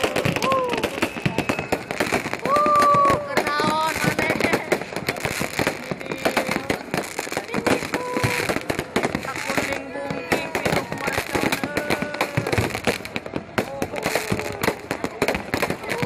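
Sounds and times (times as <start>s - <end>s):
fireworks popping and banging: 0.0s - 16.0s
people's voices: 0.0s - 16.0s.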